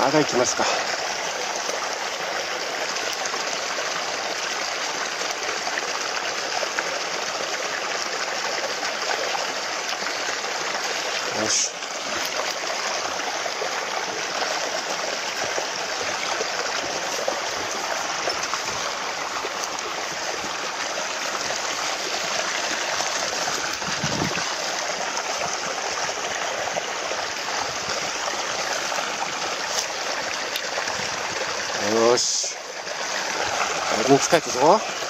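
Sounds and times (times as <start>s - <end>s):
water pouring into a pond: 0.0s - 35.0s.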